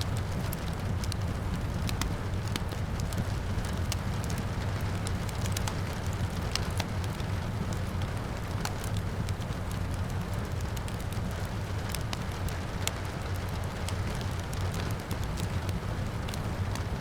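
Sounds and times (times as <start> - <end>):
rain: 0.0 - 17.0
wood fire crackling and popping: 0.0 - 17.0.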